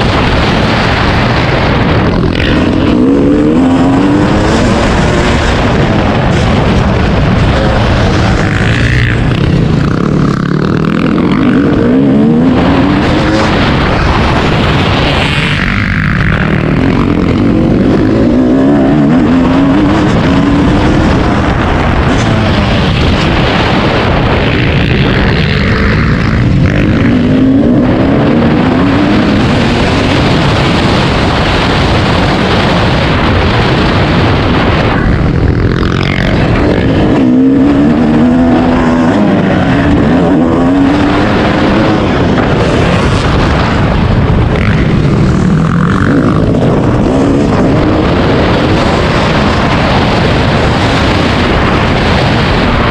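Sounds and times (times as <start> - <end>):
constant rushing noise: 0.0 - 52.9
dirt bike engine revving: 0.0 - 52.9.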